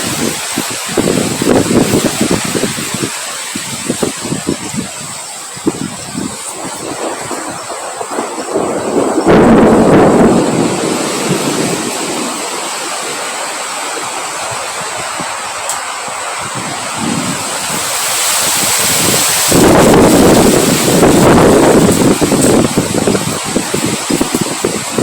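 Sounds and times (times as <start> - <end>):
wind blowing in gusts: 0.0 - 25.0.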